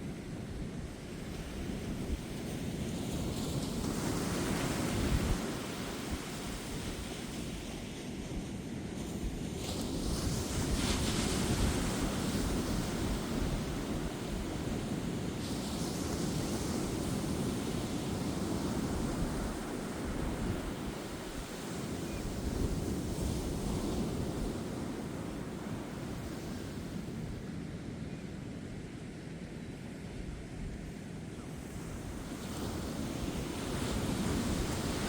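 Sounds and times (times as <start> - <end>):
wind rumbling on microphone: 0.0 - 27.7, 30.0 - 35.0.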